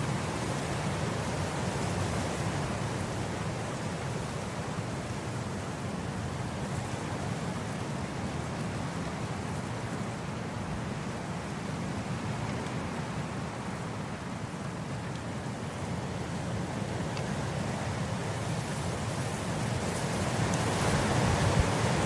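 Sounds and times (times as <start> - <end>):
wind blowing across grass: 0.0 - 22.0.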